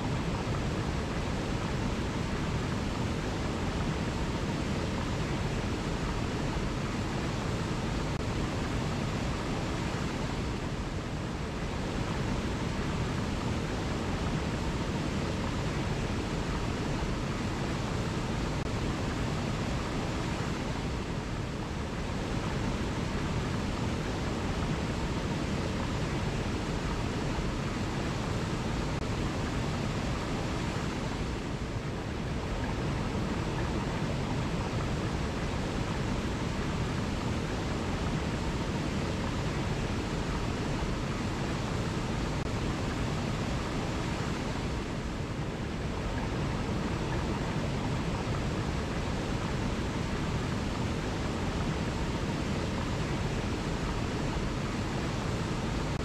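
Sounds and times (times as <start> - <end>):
water rushing over boulders: 0.0 - 56.0.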